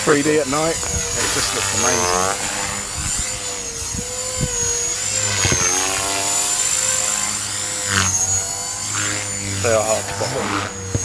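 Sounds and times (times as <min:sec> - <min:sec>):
high motor whine: 0:00.0 - 0:11.0
rc helicopter rotor buzz: 0:00.0 - 0:11.0.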